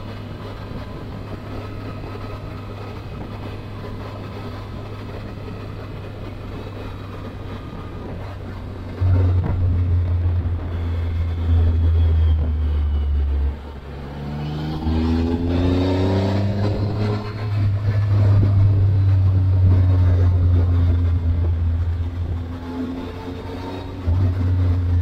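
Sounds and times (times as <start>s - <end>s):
low wind rumble: 0.0s - 25.0s
motorcycle engine: 0.0s - 25.0s.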